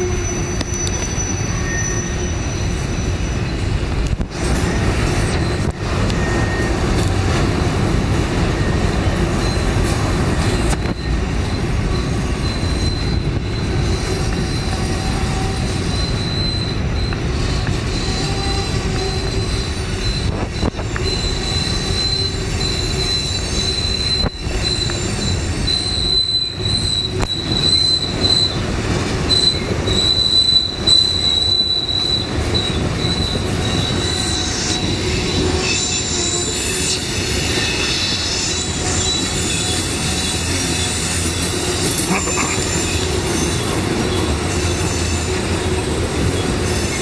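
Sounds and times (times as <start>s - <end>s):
freight train wheels rumbling: 0.0s - 47.0s
high wheel squeal: 0.0s - 47.0s.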